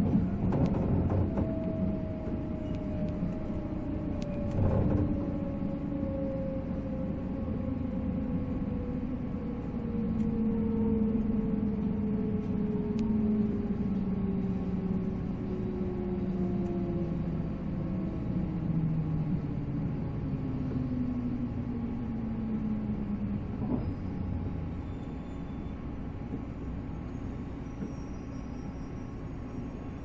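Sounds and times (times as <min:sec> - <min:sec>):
train rail rumble: 0:00.0 - 0:30.0.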